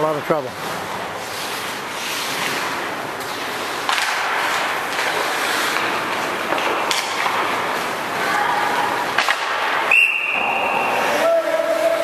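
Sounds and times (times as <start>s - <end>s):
skates scraping ice: 0.0s - 12.0s
hockey sticks clacking on puck: 0.1s - 12.0s.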